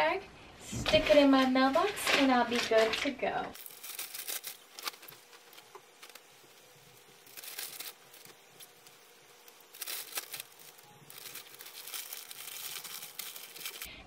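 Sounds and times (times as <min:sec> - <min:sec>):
plastic bag crinkling: 0:01.0 - 0:14.0.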